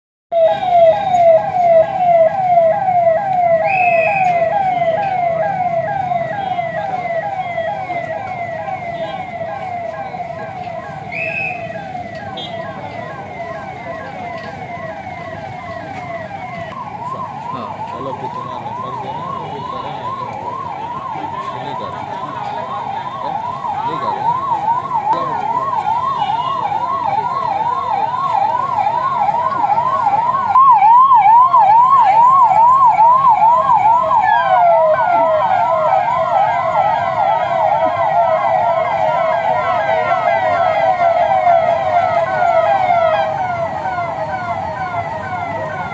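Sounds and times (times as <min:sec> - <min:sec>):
police siren yelping: 0:00.3 - 0:45.9.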